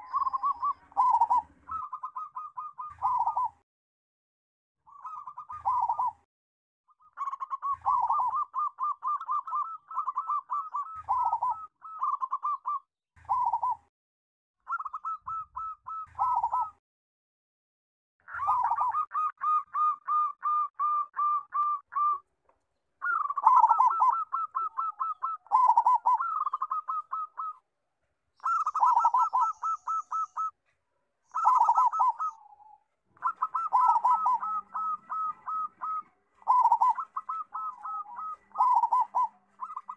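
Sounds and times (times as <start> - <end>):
dove cooing: 0.0 - 3.6, 4.9 - 6.3, 7.0 - 13.9, 14.7 - 16.8, 18.3 - 22.2, 23.0 - 27.6, 28.4 - 30.7, 31.3 - 39.9.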